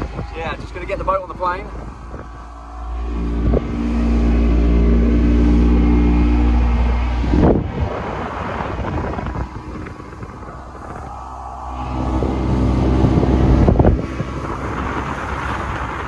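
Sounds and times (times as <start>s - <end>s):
boat engine running hard: 0.0s - 16.0s
water noise: 0.0s - 16.0s
wind on microphone: 0.0s - 16.0s.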